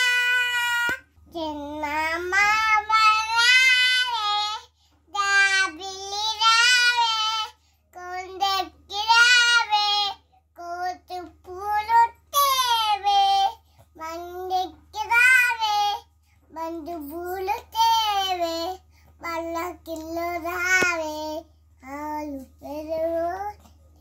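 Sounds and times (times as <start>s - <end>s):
toddler singing: 0.0s - 23.7s.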